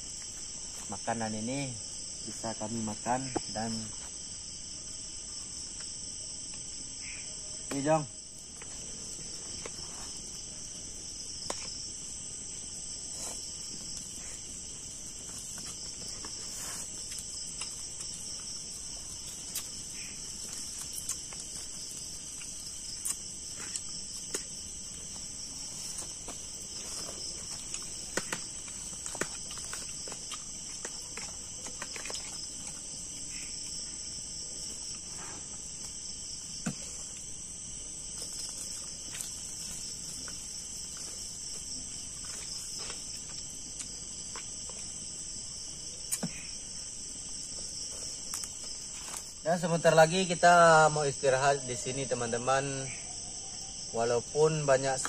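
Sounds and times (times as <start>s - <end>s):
night insects chirping: 0.0s - 55.0s.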